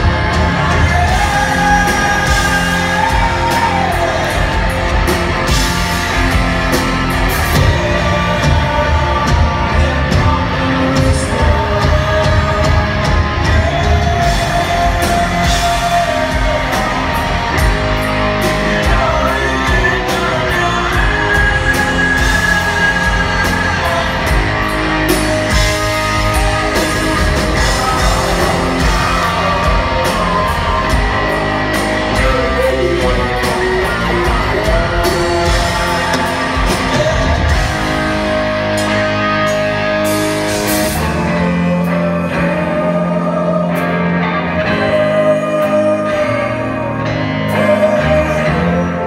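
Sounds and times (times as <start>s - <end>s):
lead vocal singing: 0.0s - 49.0s
live rock band playing: 0.0s - 49.0s
sustained electric guitar: 0.0s - 49.0s.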